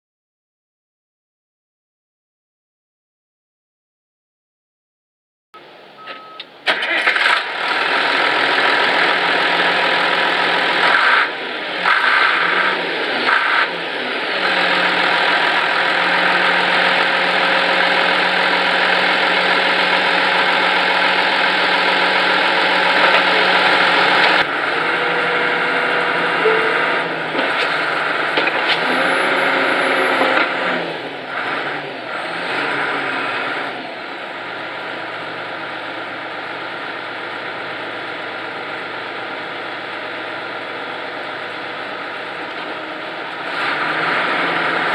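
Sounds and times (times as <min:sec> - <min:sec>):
diesel tractor engine running: 0:05.6 - 0:44.9.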